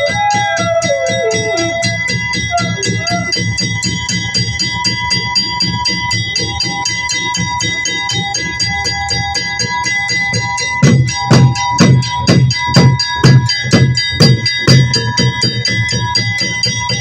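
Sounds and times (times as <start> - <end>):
drums beating: 0.0 - 17.0
heavy drum strokes: 0.0 - 17.0
metal cymbals ringing: 0.0 - 17.0.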